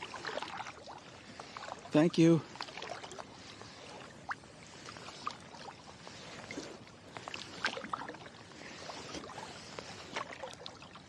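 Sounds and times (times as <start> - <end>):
water splashing off paddles: 0.0 - 11.0.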